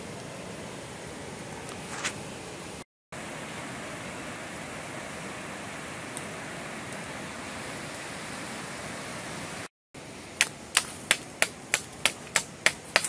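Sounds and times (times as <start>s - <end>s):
river rushing: 0.0s - 13.0s
waterfall: 0.0s - 13.0s.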